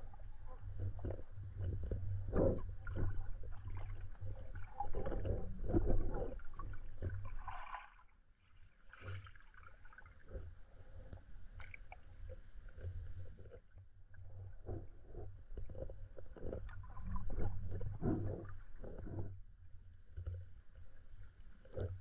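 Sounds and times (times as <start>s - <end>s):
underwater river rumble: 0.0s - 8.1s, 8.7s - 22.0s
water gurgles and knocks: 0.0s - 8.2s, 8.8s - 22.0s.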